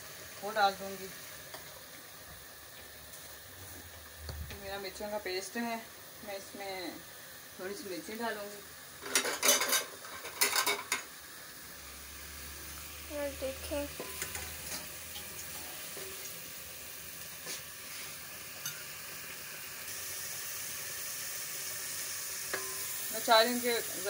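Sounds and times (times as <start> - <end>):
onion paste sizzling in oil: 0.0 - 24.0.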